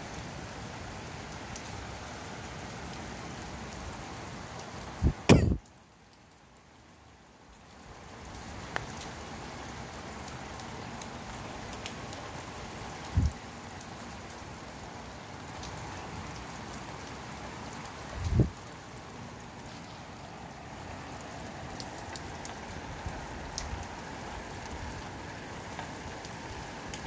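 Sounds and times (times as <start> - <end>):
rain falling on street: 0.0 - 27.0.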